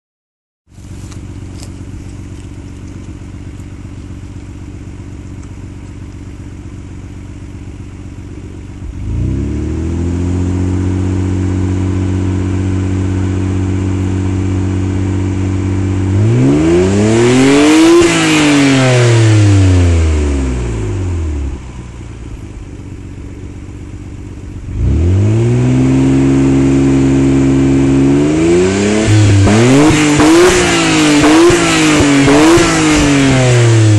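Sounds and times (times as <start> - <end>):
car engine idling and revving: 0.7 - 33.9.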